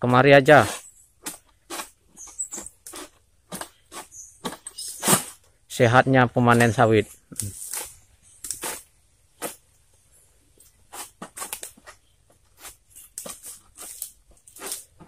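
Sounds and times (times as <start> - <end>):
sickle rasping against palm stalk: 0.4 - 5.4, 6.5 - 9.7, 10.6 - 15.0.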